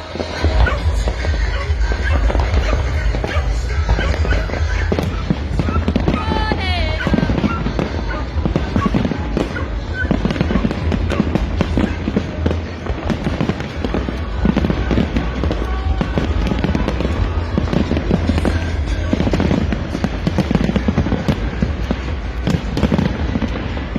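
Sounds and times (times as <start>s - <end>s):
fireworks crackling and banging: 0.0s - 23.9s
music: 0.0s - 23.9s.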